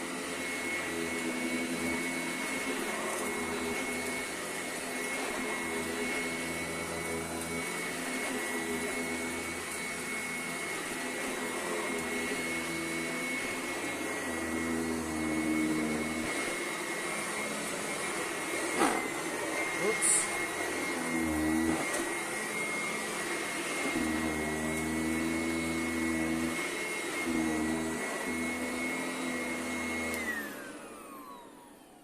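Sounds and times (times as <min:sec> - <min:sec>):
vacuum cleaner whine: 0:00.0 - 0:32.0.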